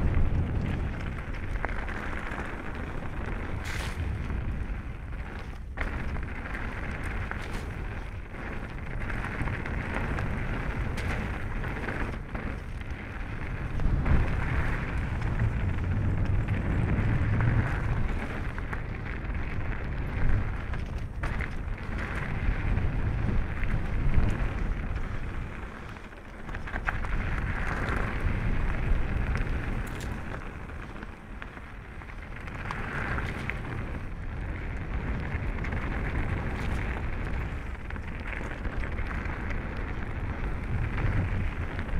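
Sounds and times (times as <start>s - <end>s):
tyres crunching over gravel: 0.0s - 41.9s
wind buffeting microphone: 0.0s - 41.9s.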